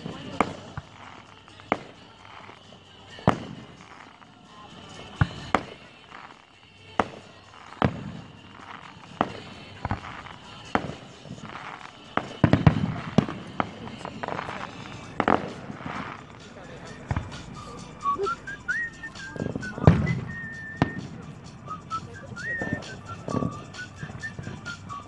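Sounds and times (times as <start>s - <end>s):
distant fireworks booming: 0.0s - 6.2s, 7.0s - 17.8s, 18.7s - 25.0s.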